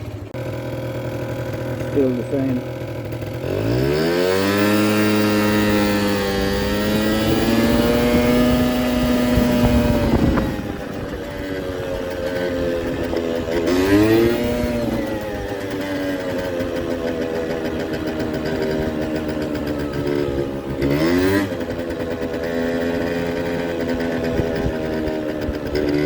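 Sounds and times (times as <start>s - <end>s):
scooter engine revving: 0.0s - 26.0s.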